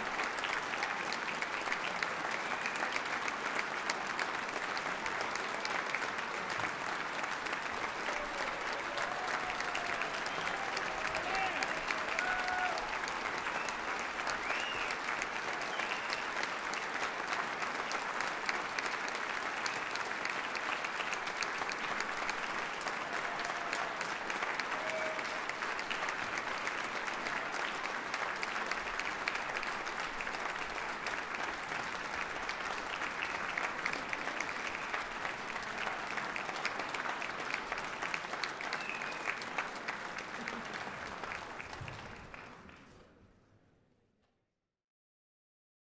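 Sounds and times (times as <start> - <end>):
audience applauding: 0.0 - 43.0.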